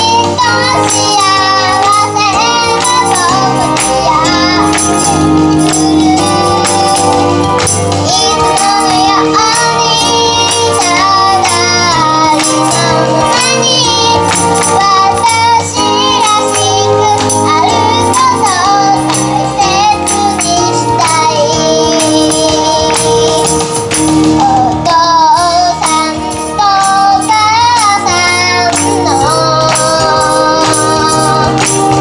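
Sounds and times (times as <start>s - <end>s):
child singing: 0.0s - 7.4s, 8.0s - 23.7s, 24.4s - 32.0s
backing track with beat: 0.0s - 32.0s.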